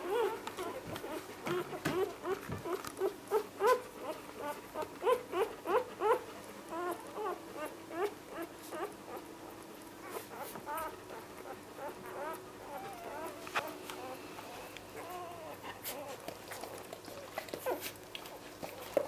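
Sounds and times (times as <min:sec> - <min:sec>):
puppies squeaking and whimpering: 0:00.0 - 0:09.3, 0:10.0 - 0:18.0.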